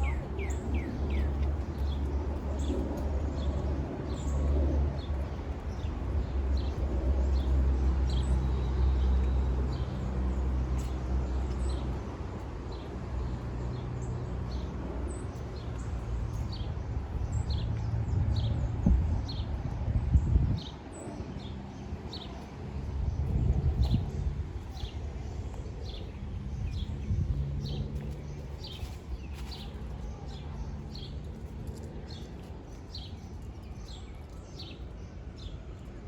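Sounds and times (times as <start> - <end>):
small birds chirping: 0.0 - 19.6, 20.6 - 36.0.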